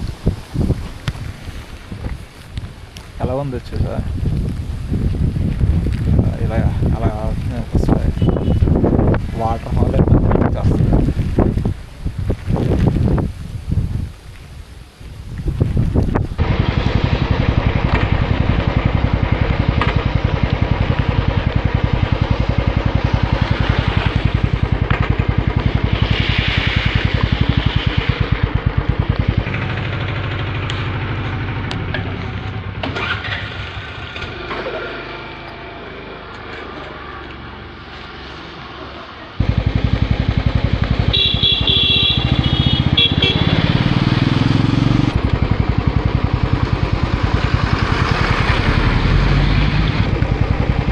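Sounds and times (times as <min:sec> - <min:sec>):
motorcycle engine running: 0:00.0 - 0:13.9, 0:15.4 - 0:37.3, 0:39.3 - 0:50.9
wind rushing over microphone: 0:00.0 - 0:33.1, 0:39.4 - 0:50.9.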